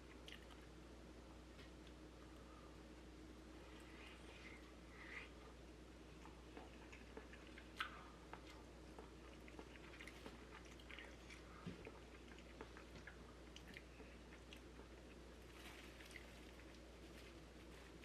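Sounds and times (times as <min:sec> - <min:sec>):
chewing food: 0:00.0 - 0:00.8, 0:03.8 - 0:18.0.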